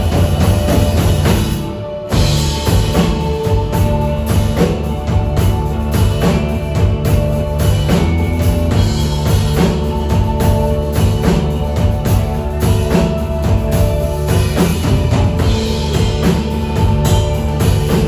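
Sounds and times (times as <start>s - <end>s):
drum kit beat: 0.0s - 18.0s
live band playing instrumental: 0.0s - 18.0s.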